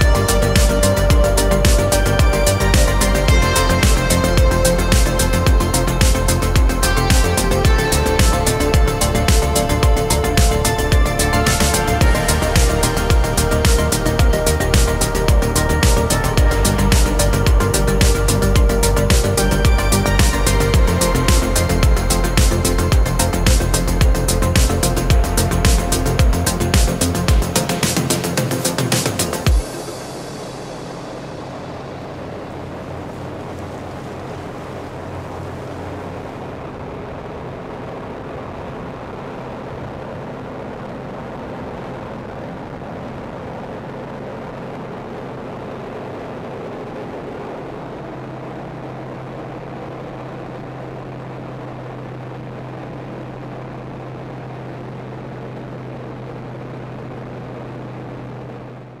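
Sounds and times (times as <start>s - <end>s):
aircraft engine drone in cockpit: 0.0s - 59.0s.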